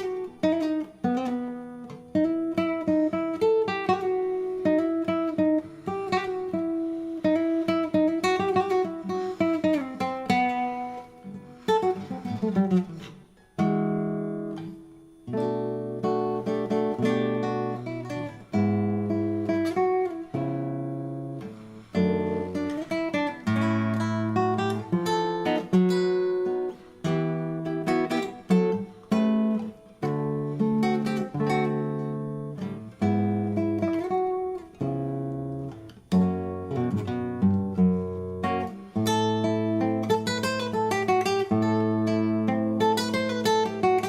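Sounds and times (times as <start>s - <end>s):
acoustic guitar playing: 0.0s - 44.0s.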